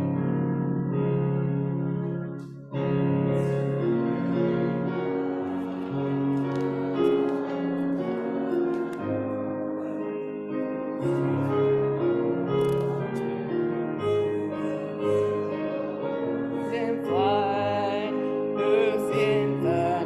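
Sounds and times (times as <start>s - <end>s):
piano playing a hymn: 0.0s - 20.0s
people singing: 3.4s - 20.0s.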